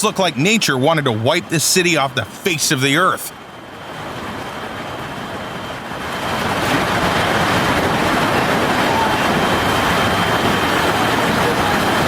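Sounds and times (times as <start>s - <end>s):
heavy rain downpour: 0.0s - 12.0s
wind: 0.0s - 12.0s.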